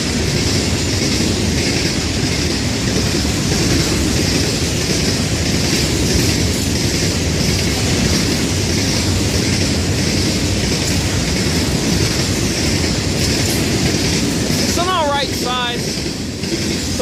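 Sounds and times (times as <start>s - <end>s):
freight train cars rolling past: 0.0s - 17.0s.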